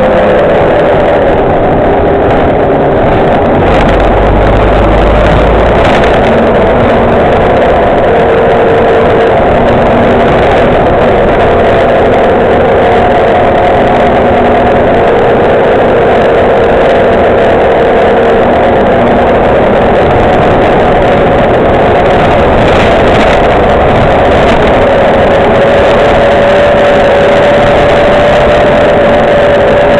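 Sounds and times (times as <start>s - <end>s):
bus diesel engine running: 0.0s - 29.9s
drivetrain whine: 0.0s - 29.9s.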